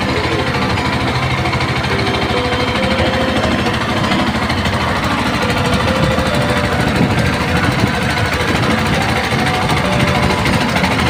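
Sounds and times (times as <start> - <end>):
boat engine pulsing: 0.0 - 11.0.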